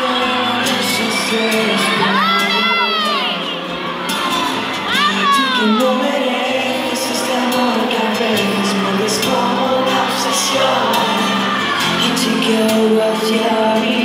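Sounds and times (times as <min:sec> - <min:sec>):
male voices singing: 0:00.0 - 0:04.0, 0:04.8 - 0:14.0
acoustic guitar: 0:00.0 - 0:14.0
audience in hall: 0:00.0 - 0:14.0
bass guitar: 0:00.0 - 0:14.0.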